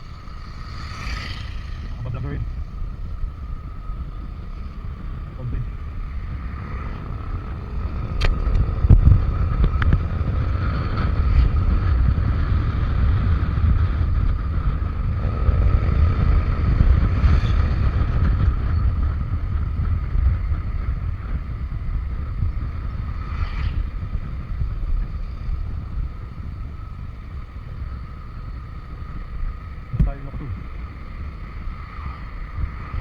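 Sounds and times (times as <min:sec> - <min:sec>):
scooter engine running: 0:00.0 - 0:33.0
steady high whine: 0:00.0 - 0:33.0
wind buffeting microphone: 0:00.0 - 0:33.0.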